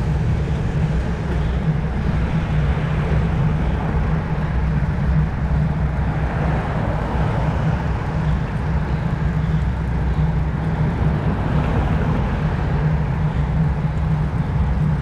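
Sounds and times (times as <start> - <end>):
bike road noise: 0.0 - 15.0
wind rumble on microphone: 0.0 - 15.0.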